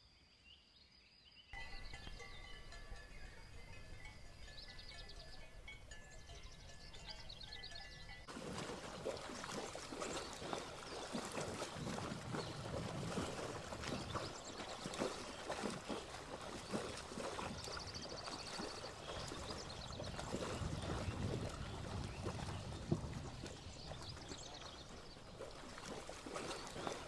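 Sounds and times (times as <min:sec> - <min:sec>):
cows splashing through water: 0:01.6 - 0:27.0.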